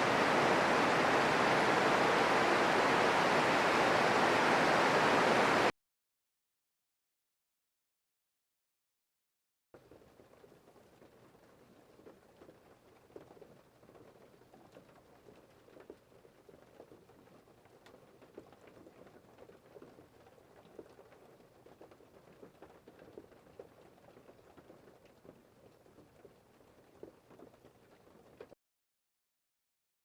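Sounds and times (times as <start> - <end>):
faint rain pattering: 0.0 - 5.7, 9.8 - 28.6.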